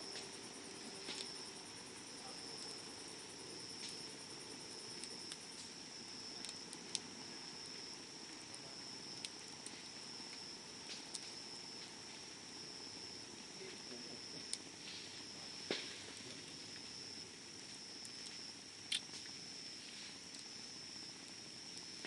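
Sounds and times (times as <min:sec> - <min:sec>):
campfire crackling: 0:00.0 - 0:22.0
insects trilling: 0:00.0 - 0:22.0.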